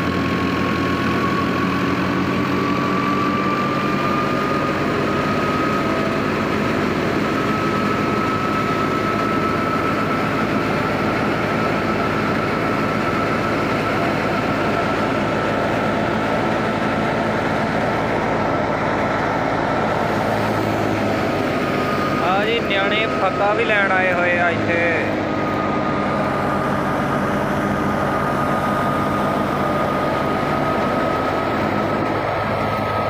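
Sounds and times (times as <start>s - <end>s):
high whine over low hum: 0.0s - 33.0s.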